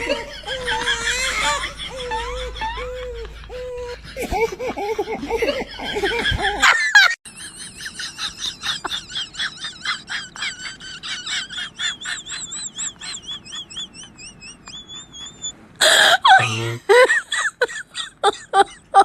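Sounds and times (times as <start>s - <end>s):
person laughing: 0.0s - 19.0s.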